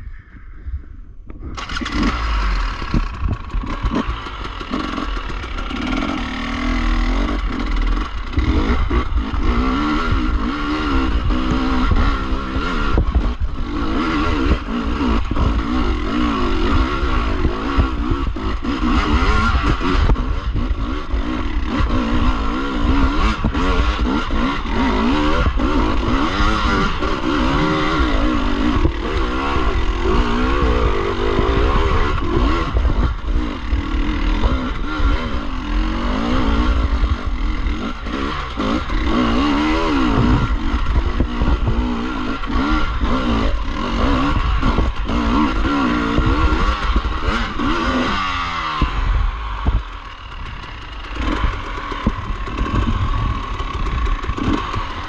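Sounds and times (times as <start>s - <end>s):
dirt bike engine revving: 1.4s - 55.0s.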